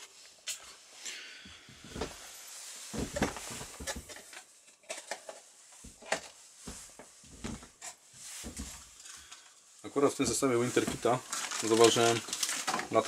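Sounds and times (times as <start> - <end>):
jacket rustling: 1.7 - 4.6, 5.4 - 13.0.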